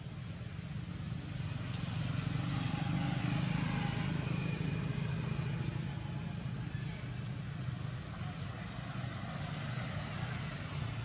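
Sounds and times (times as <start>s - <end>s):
vehicle passing on road: 1.2s - 11.0s.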